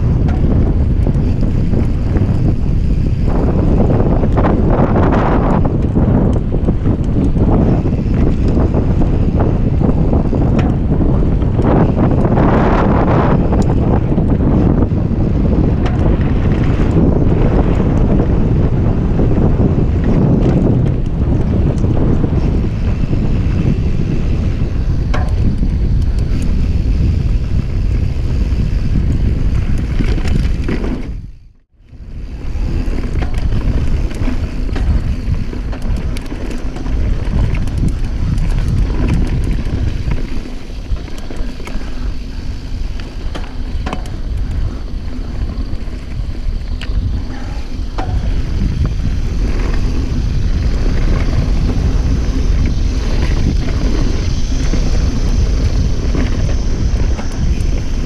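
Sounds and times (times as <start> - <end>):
bike rattles and clicks: 0.0 - 58.0
bike tyres on dirt trail: 0.0 - 58.0
wind buffeting microphone: 0.0 - 58.0.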